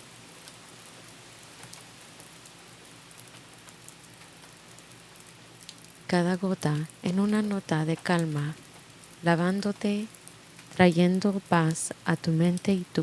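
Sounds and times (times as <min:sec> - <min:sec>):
soft rain falling: 0:00.0 - 0:13.0.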